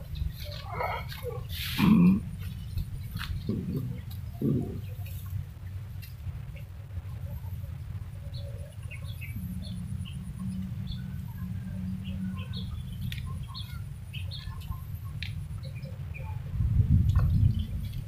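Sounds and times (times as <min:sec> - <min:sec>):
low hum: 0:00.0 - 0:18.0
small birds chirping: 0:00.0 - 0:18.0
steady low rumble: 0:00.0 - 0:18.0.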